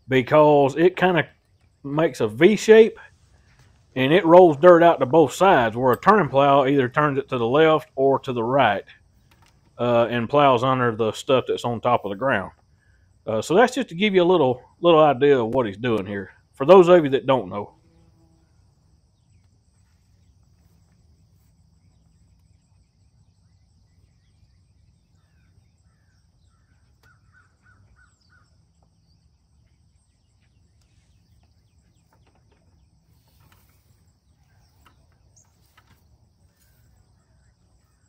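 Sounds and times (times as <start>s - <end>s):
faint distant bird calls: 0.0s - 38.0s.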